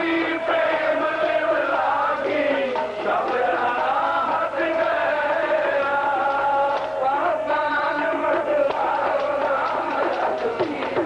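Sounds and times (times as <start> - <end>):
harmonium: 0.0 - 11.0
man singing: 0.0 - 11.0.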